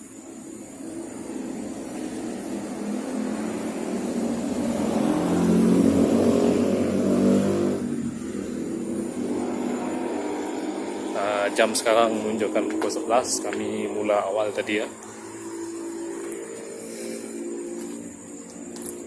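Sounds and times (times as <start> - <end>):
vehicle engine passing: 0.1 - 19.0.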